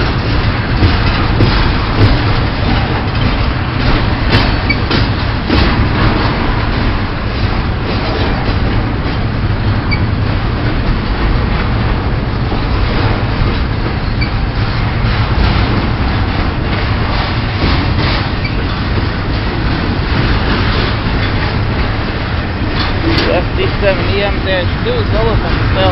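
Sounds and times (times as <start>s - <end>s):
freight train rolling by: 0.0s - 25.9s.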